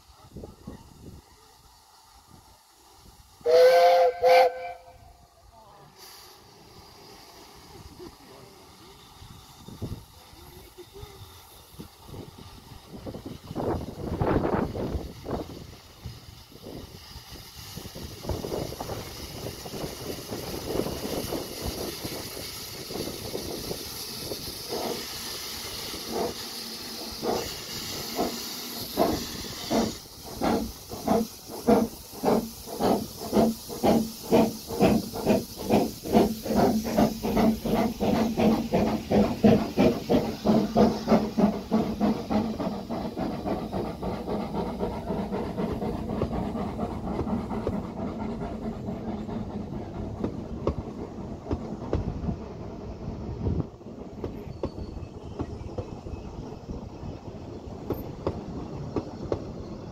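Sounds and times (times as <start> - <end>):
steam hissing: 0.0 - 59.9
steam locomotive exhaust chuffs: 0.0 - 59.9.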